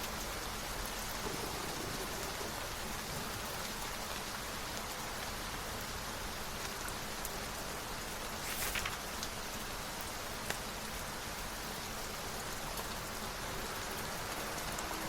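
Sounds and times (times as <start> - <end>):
rain hissing: 0.0 - 15.0
raindrops ticking: 0.0 - 15.0
rustle: 0.0 - 15.0.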